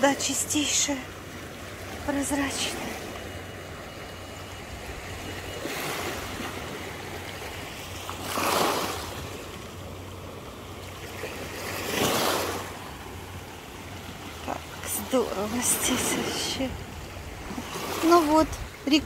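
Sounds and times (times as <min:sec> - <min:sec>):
small waves washing onto sand: 0:00.0 - 0:19.0.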